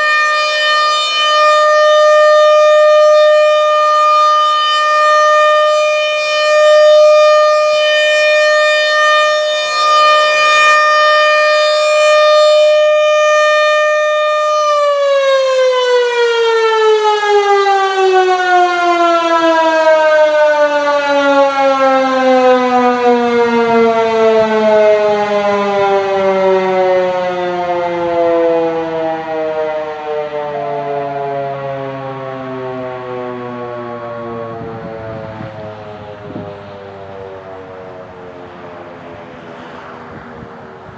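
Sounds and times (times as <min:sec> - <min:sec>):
warning siren winding down: 0:00.0 - 0:40.9.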